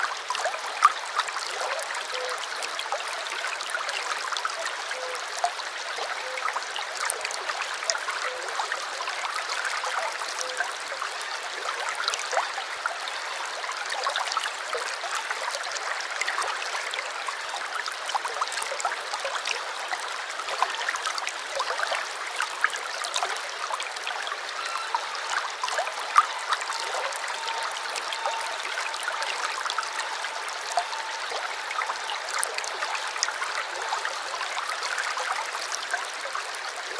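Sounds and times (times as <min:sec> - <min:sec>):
small stream flowing: 0:00.0 - 0:36.9
water splashes and gurgles: 0:00.0 - 0:36.9.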